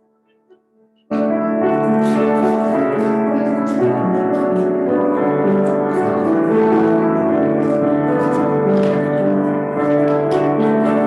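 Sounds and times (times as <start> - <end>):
instrumental piano music: 0.0 - 11.0.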